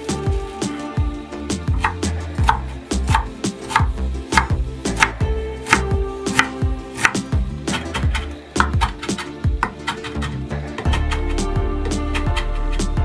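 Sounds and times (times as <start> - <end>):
knife chopping on wooden board: 1.7 - 12.9.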